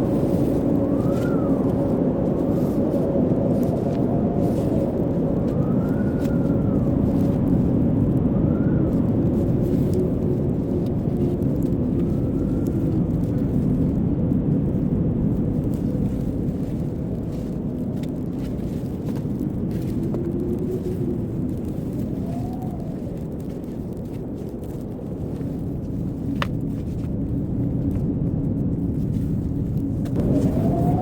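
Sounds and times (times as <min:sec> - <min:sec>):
blizzard wind rushing: 0:00.0 - 0:31.0
faint wind whistling: 0:00.0 - 0:31.0.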